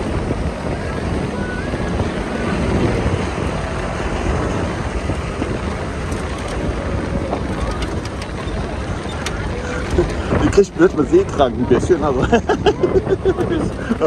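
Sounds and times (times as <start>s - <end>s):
jeep engine driving on dirt: 0.0s - 14.0s
wind buffeting microphone: 0.0s - 14.0s.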